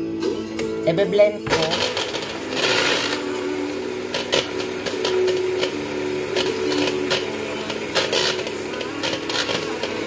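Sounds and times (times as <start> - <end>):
hand blender motor hum: 1.5 - 10.0.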